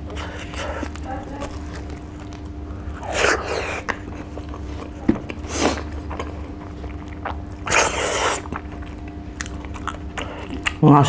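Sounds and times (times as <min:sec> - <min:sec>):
person chewing food: 0:00.0 - 0:10.8
low steady hum: 0:00.0 - 0:11.0.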